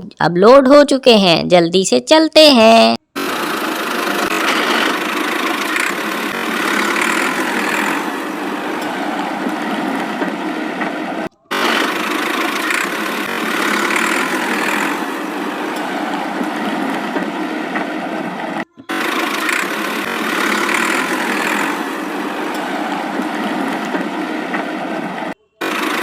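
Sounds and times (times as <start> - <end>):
toy tractor engine running: 3.2 - 17.9, 18.5 - 26.0.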